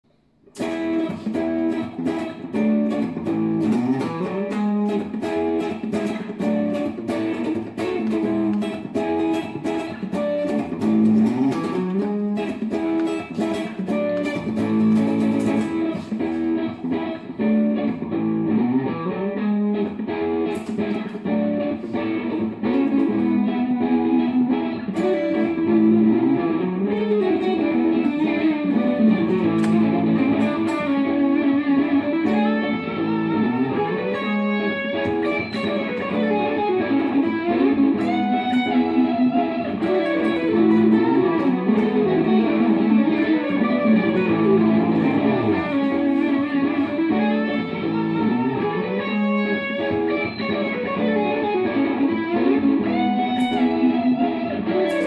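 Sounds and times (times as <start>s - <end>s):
looped electric guitar: 0.1s - 55.0s.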